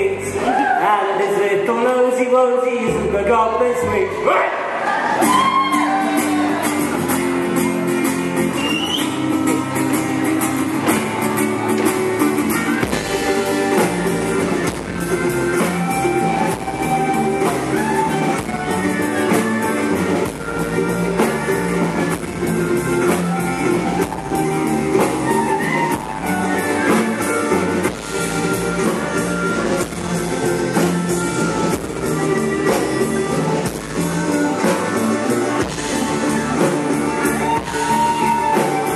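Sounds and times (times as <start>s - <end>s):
acoustic guitar: 0.0s - 38.9s
electric guitar: 4.1s - 38.9s
double bass: 5.0s - 38.9s.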